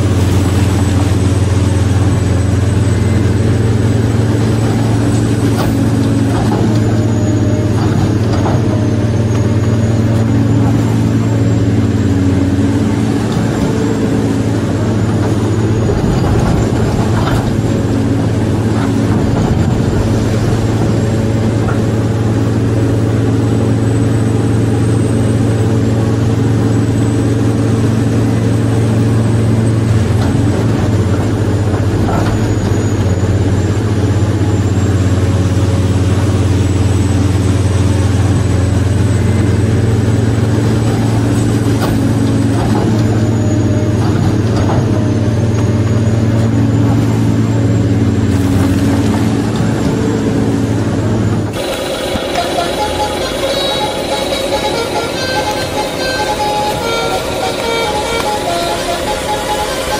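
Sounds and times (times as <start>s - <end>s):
engine-like drone: 0.0s - 59.9s.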